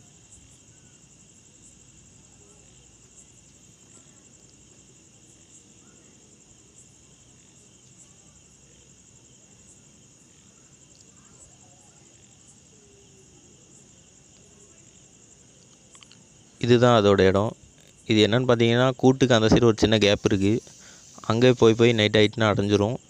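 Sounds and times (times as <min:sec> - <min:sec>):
high-pitched insect trilling: 0:00.0 - 0:23.0.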